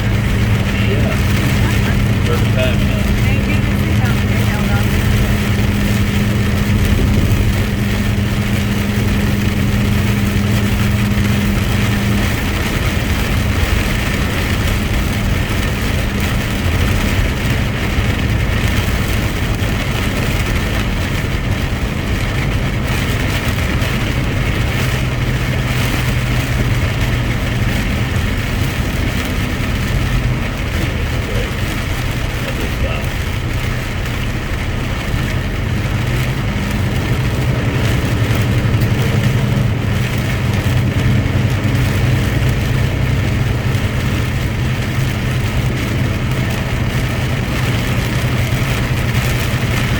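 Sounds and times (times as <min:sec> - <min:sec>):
road noise: 0:00.0 - 0:49.9
truck engine running: 0:00.0 - 0:49.9.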